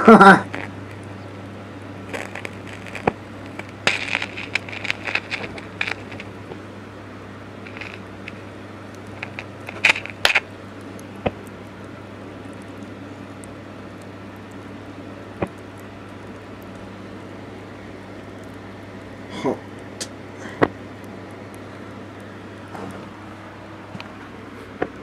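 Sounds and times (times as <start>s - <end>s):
electric arcing crackles and pops: 0.0s - 25.0s
steady low hum: 0.0s - 25.0s.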